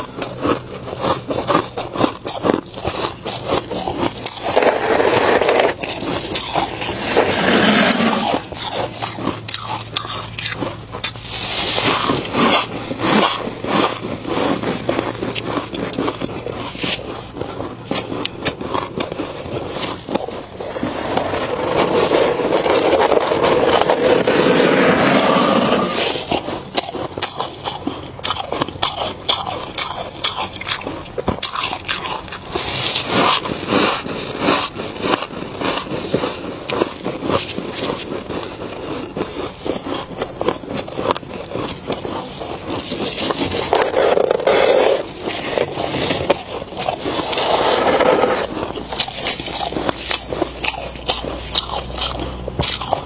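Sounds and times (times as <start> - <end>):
chewing crunchy frost: 0.0 - 53.0
gloved hand scraping frost: 2.3 - 26.7, 32.6 - 51.6.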